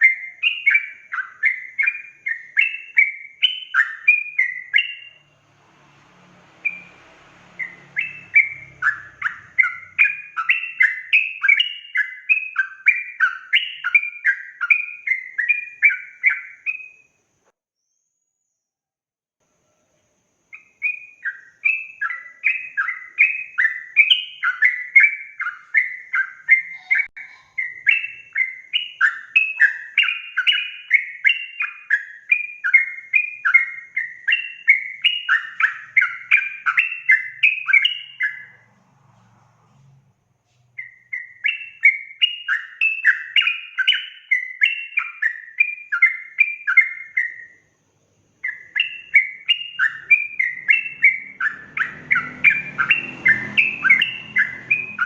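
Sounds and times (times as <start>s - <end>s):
bulbul singing: 0.0s - 17.2s, 20.4s - 38.7s, 40.6s - 55.0s.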